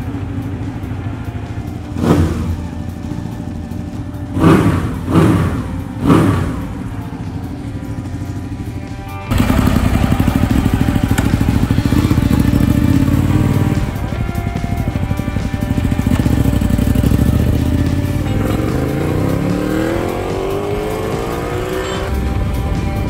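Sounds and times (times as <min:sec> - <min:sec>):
motorcycle engine idling and revving: 0:00.0 - 0:23.0
motorcycle exhaust running: 0:00.0 - 0:23.0.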